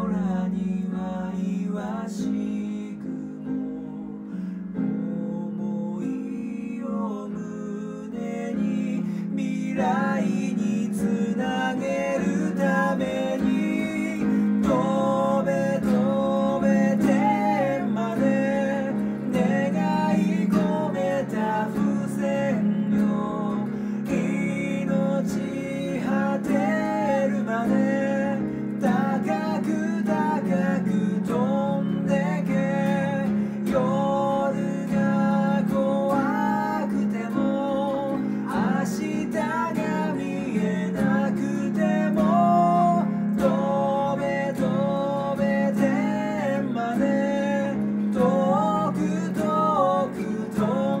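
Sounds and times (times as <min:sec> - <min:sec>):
man singing: 0:00.0 - 0:51.0
strummed acoustic guitar: 0:09.0 - 0:51.0.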